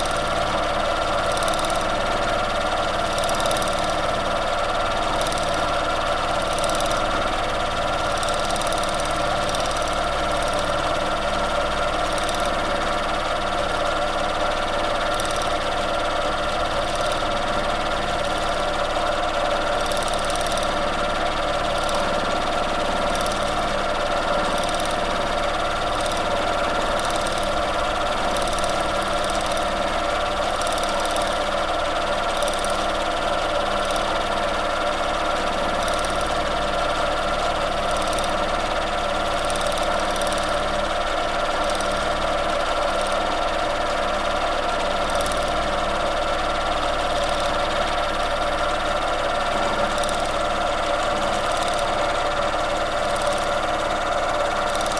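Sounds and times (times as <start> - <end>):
sewing machine running: 0.0 - 54.9.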